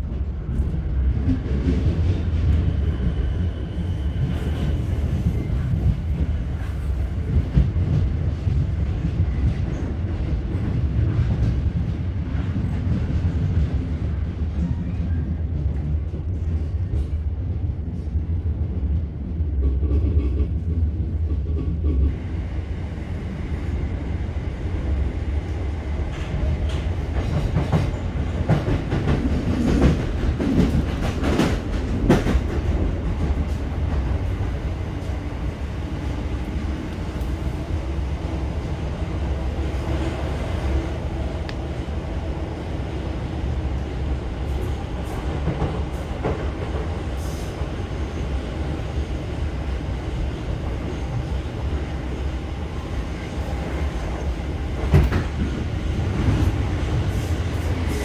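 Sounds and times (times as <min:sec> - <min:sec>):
train cabin low rumble: 0:00.0 - 0:58.0.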